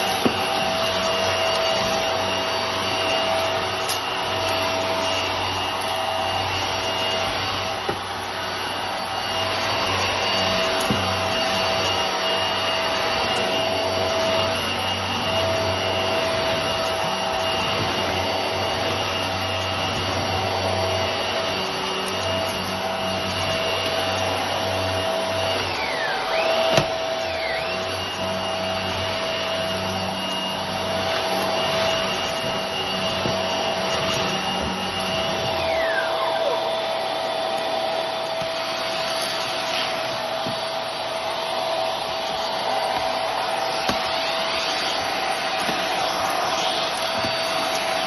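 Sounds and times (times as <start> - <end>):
vacuum cleaner motor whine: 0.0 - 48.0.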